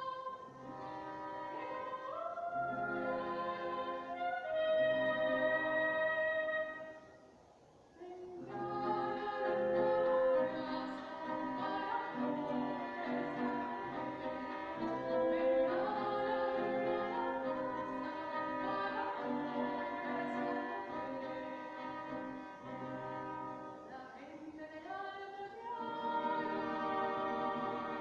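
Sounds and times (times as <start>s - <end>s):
violins: 0.0s - 6.9s, 8.1s - 28.0s
acoustic guitar: 0.0s - 7.0s, 8.3s - 24.0s, 25.6s - 28.0s
woman singing: 0.0s - 7.0s, 8.0s - 28.0s.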